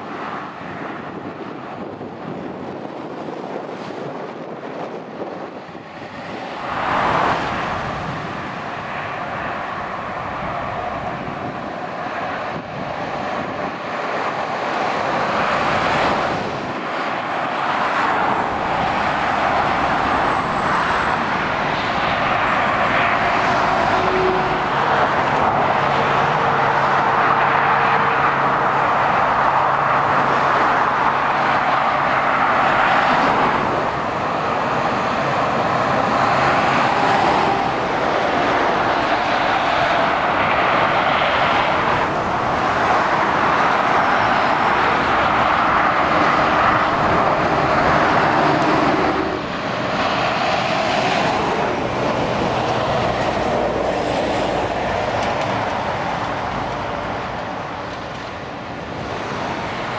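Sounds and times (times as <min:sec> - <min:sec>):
heavy vehicle engine drone: 0:00.0 - 0:59.9
motorway traffic passing: 0:00.0 - 0:59.9.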